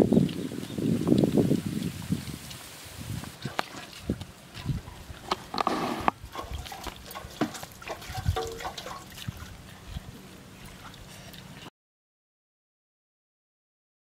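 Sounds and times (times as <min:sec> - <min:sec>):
lip smacks and slurps: 0:00.2 - 0:11.7
wet squishing of rice: 0:00.3 - 0:11.7.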